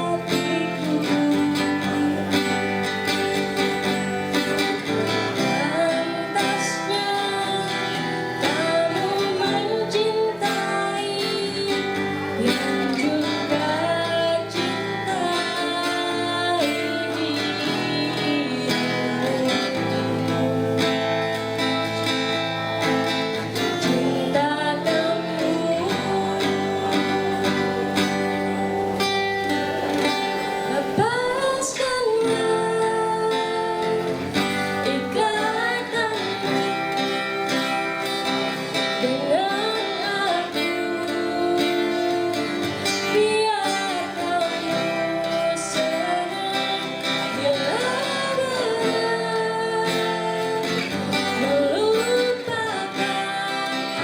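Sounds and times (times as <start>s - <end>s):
sliding lead melody: 0.0s - 43.5s
plucked guitar: 0.0s - 54.0s.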